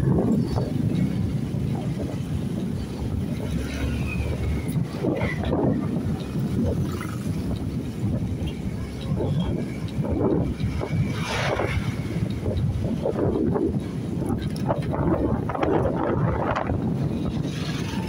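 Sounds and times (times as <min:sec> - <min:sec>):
motorcycle engine and road noise: 0:00.0 - 0:18.0
wind buffeting microphone: 0:00.0 - 0:18.0.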